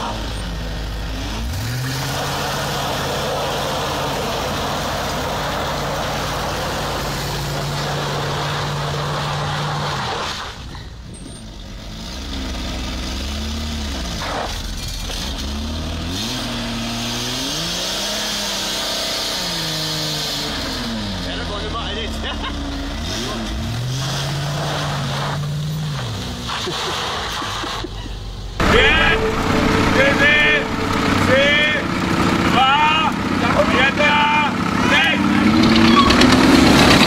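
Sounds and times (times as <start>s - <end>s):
car engine revving: 0.0s - 10.3s, 11.8s - 27.7s, 28.6s - 37.0s.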